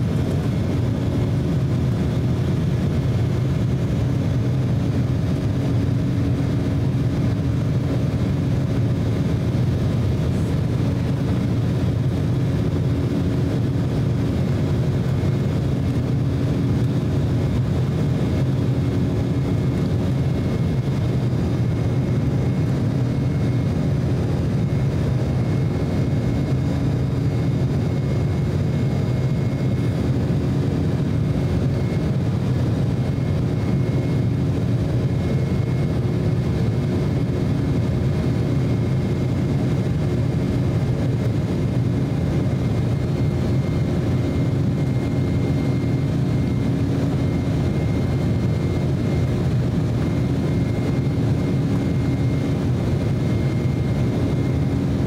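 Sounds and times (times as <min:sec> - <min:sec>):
jet engines and rushing airflow: 0:00.0 - 0:55.0.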